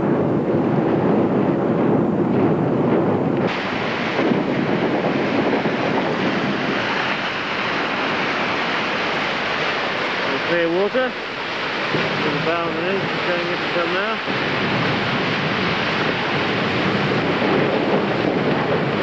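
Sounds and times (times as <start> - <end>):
water rushing past bow: 0.0 - 19.0
wind on microphone: 0.0 - 19.0.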